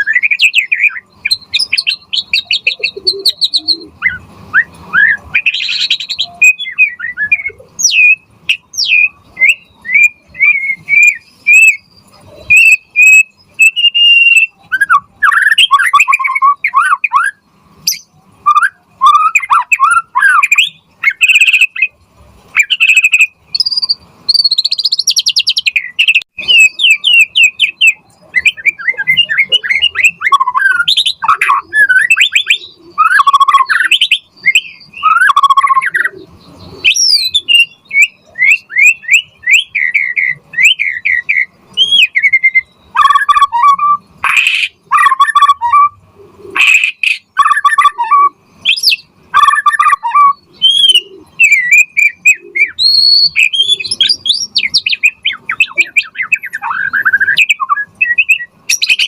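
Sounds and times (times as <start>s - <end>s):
bird singing whistled phrases: 0.0s - 22.0s, 22.6s - 59.0s.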